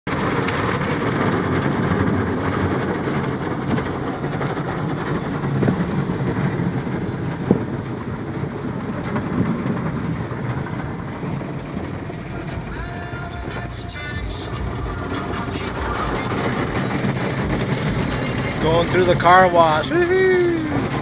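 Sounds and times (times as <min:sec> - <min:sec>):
car wash machinery rumbling: 0:00.1 - 0:21.0.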